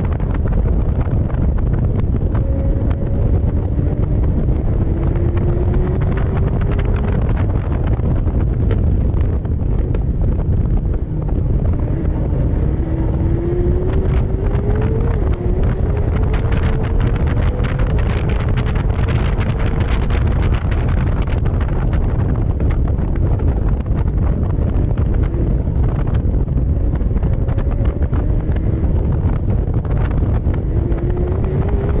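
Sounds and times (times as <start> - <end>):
car engine revving: 0.0 - 32.0
wind buffeting microphone: 0.0 - 32.0.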